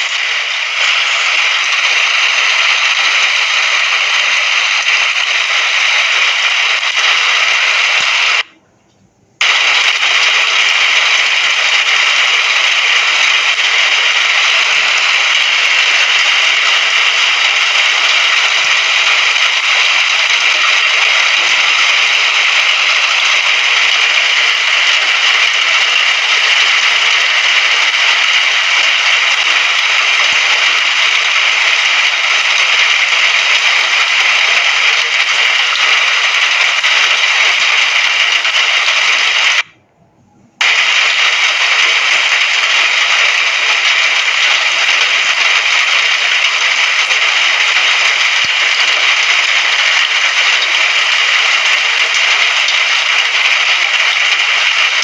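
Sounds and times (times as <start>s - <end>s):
rain hissing: 0.0s - 8.5s, 9.4s - 39.8s, 40.6s - 55.0s.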